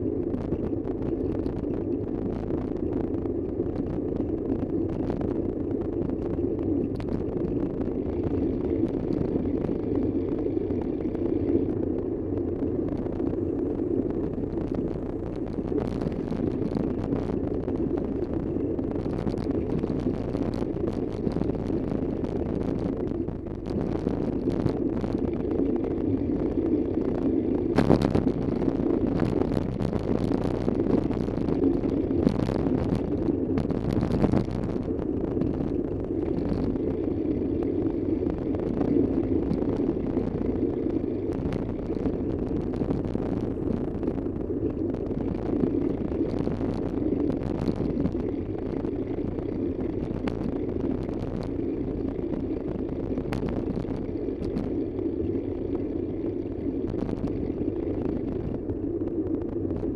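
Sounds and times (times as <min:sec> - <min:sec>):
vehicle engine and road noise: 0:00.0 - 0:59.9.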